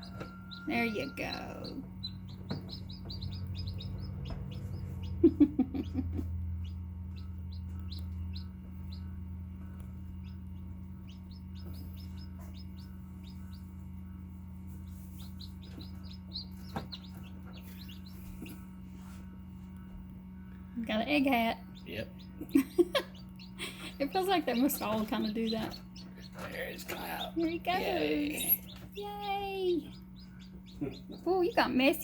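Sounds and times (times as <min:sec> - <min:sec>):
chicks peeping: 0:00.0 - 0:32.0
steady low hum: 0:00.0 - 0:32.0.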